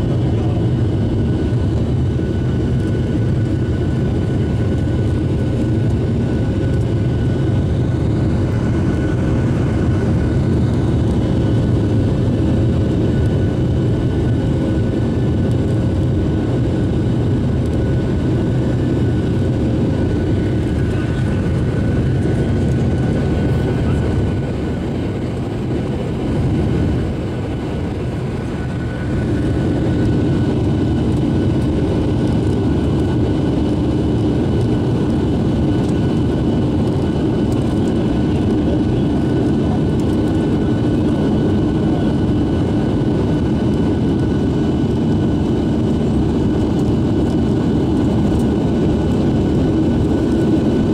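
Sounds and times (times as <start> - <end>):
jet engine roar in cabin: 0.0 - 50.9.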